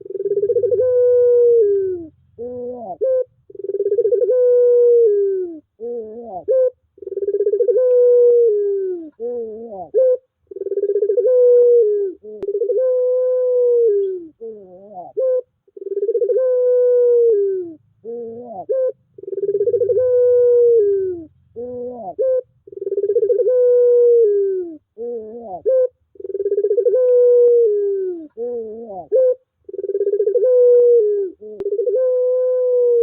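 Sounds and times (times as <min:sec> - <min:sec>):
dove cooing: 0:00.0 - 0:33.0.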